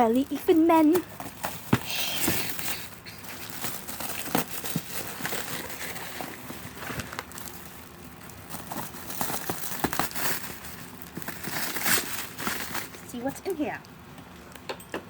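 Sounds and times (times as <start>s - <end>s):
paper and packaging crinkling: 0.0s - 13.6s.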